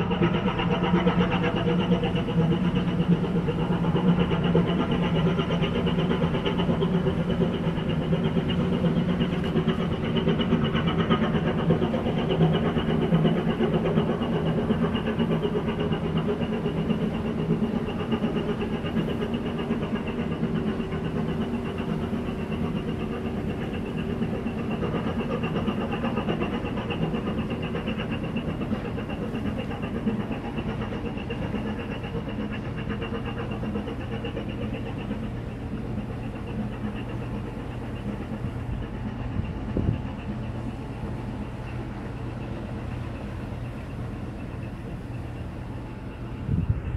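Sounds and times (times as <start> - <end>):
ship engine drone: 0.0 - 46.9.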